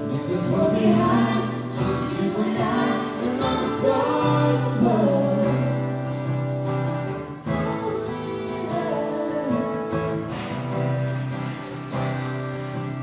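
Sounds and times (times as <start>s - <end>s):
live band with guitar: 0.0s - 13.0s.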